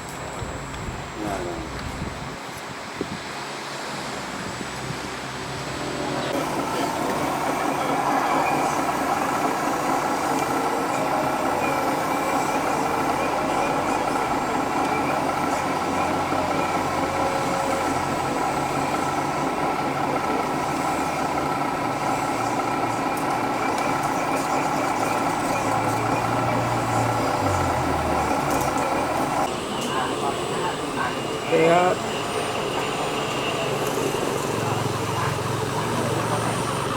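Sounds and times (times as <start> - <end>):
engine-like drone: 0.0 - 36.9
wavering whine: 6.3 - 36.9.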